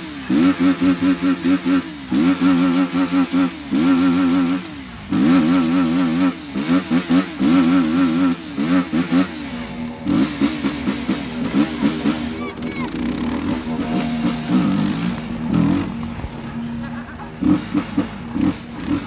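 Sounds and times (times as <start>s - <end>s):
motorcycle engine revving high: 0.0s - 19.0s.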